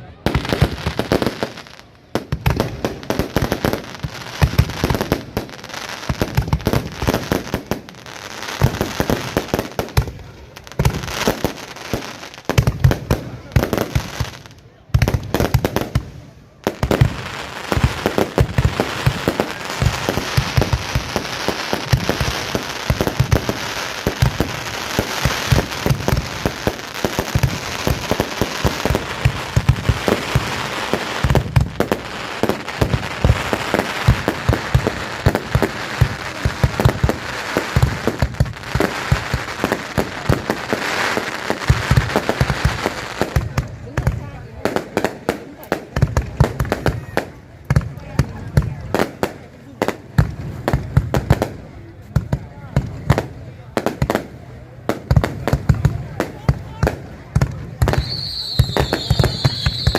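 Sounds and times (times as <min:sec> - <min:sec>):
fireworks crackling: 0:00.0 - 0:59.9
fireworks rapid bangs: 0:00.2 - 0:10.2, 0:10.8 - 0:59.9.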